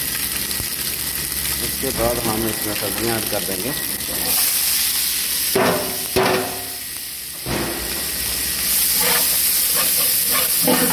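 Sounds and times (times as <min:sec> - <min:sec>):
oil sizzling in a pot: 0:00.0 - 0:10.9.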